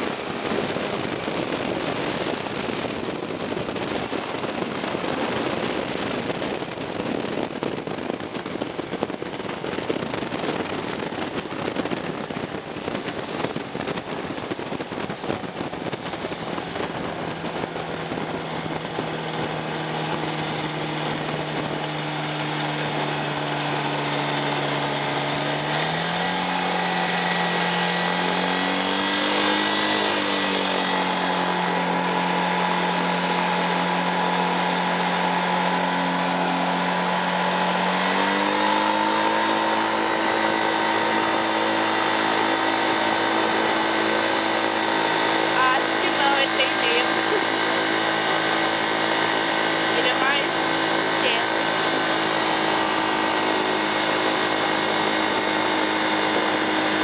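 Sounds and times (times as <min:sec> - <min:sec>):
rumbling wind: 0:00.0 - 0:57.0
ultralight aircraft engine humming: 0:00.0 - 0:57.0.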